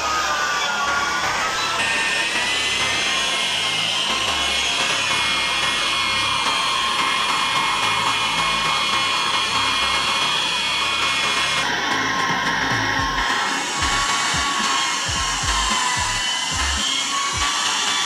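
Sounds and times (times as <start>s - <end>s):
power tool motor whine: 0.0s - 18.0s.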